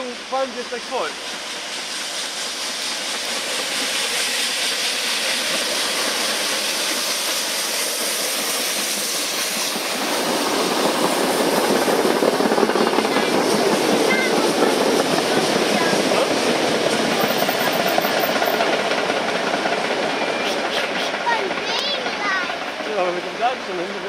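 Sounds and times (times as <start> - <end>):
steam locomotive hissing exhaust: 0.0 - 21.6
train rumbling past: 0.0 - 24.0.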